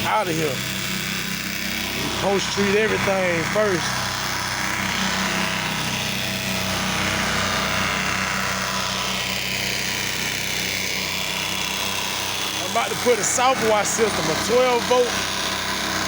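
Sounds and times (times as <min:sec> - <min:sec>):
pressure washer engine running: 0:00.0 - 0:16.0.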